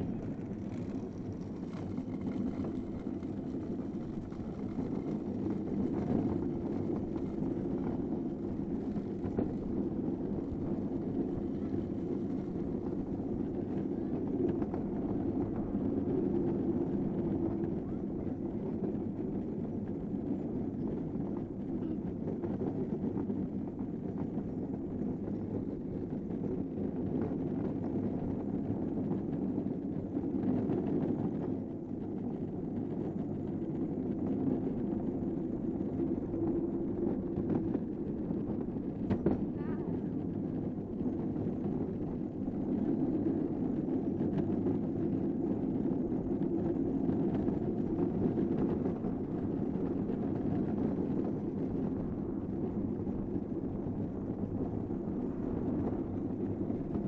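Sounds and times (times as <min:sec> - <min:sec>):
wheels rumbling on asphalt: 0:00.0 - 0:57.0
wind buffeting microphone: 0:00.0 - 0:57.0.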